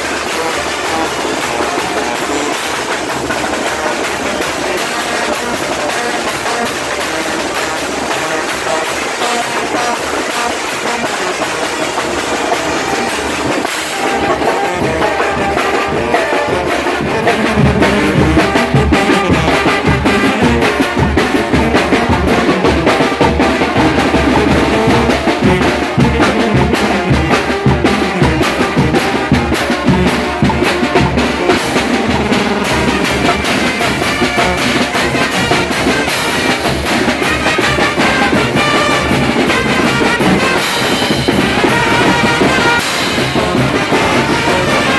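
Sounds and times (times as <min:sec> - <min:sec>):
bass drum and snare beat: 0:00.0 - 0:44.9
village band music: 0:00.0 - 0:44.9.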